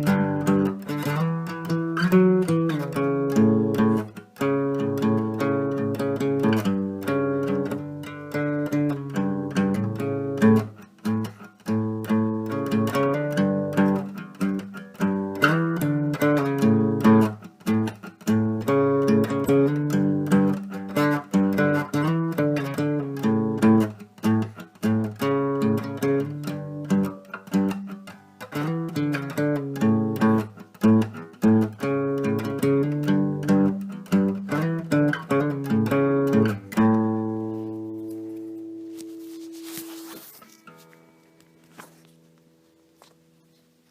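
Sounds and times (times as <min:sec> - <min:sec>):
plucked string instrumental music: 0:00.0 - 0:43.9.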